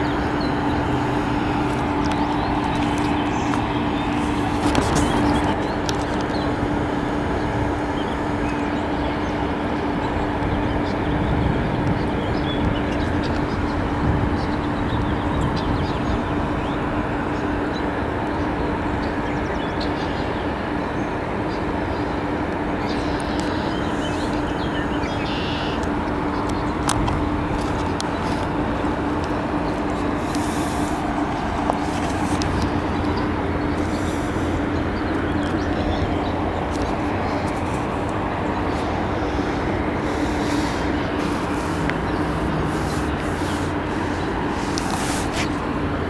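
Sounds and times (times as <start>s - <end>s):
low rumbling noise: 0.0s - 46.0s
mechanical drone hum: 0.0s - 46.0s.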